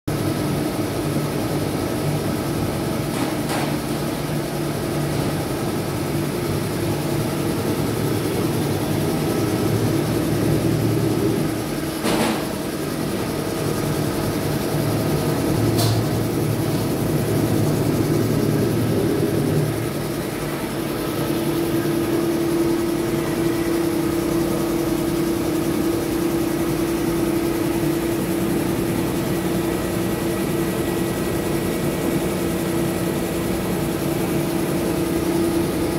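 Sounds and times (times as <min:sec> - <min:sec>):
air compressor humming: 0:00.1 - 0:35.9.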